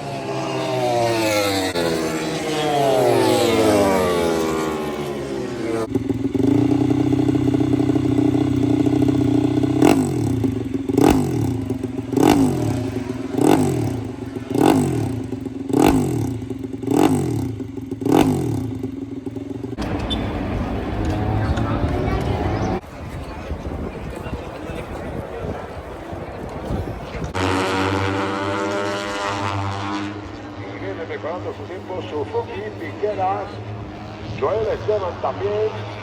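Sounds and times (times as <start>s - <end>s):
crowd hubbub: 0.0s - 17.1s, 19.2s - 36.0s
motorcycle engine revving: 0.0s - 36.0s
racing motorcycle passing: 0.0s - 36.0s.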